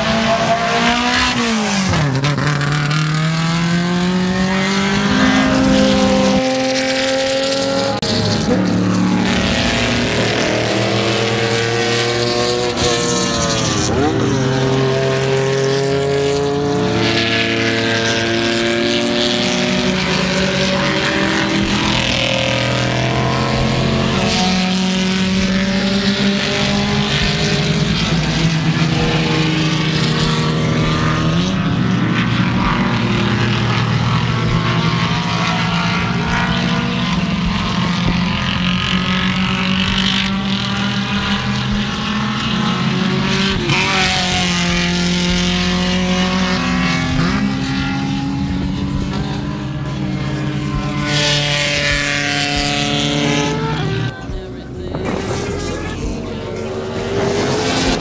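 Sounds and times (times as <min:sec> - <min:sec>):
cars passing by: 0:00.0 - 0:58.0
race car engines accelerating: 0:00.0 - 0:58.0.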